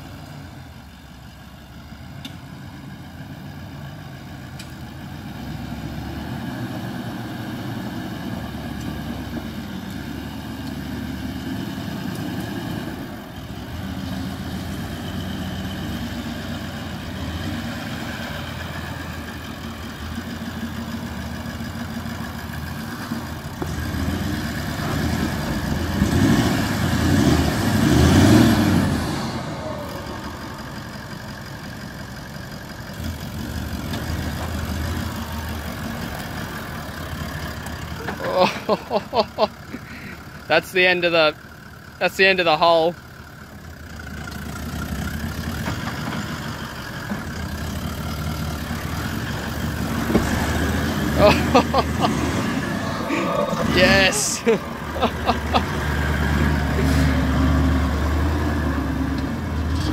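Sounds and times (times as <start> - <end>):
diesel engine at low revs: 0.0 - 59.9.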